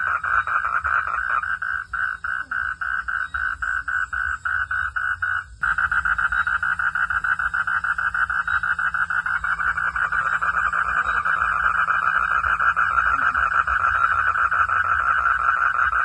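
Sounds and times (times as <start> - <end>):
frogs calling in rapid pulses: 0.0 - 16.0.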